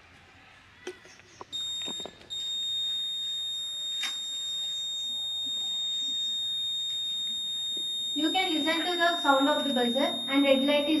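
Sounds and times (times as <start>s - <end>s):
small clicks: 0.9s - 11.0s
high-pitched alarm buzzer: 1.6s - 11.0s.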